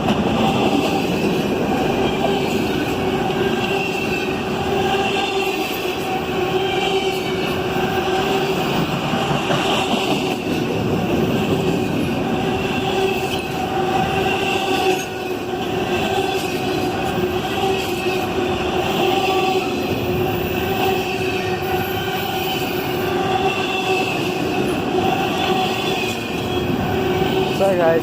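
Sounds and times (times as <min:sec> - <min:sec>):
freight train wheels rumbling: 0:00.0 - 0:28.0
train wheel squeal: 0:00.0 - 0:28.0.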